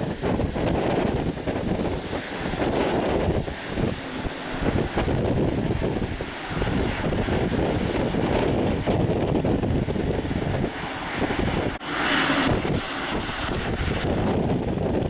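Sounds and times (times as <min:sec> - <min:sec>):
jet engine rumble: 0:00.0 - 0:15.0
wind buffeting microphone: 0:00.0 - 0:15.0.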